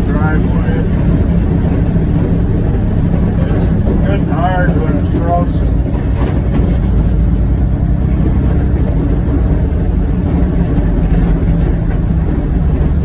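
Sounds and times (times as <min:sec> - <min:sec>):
utility vehicle engine rumble: 0:00.0 - 0:13.0.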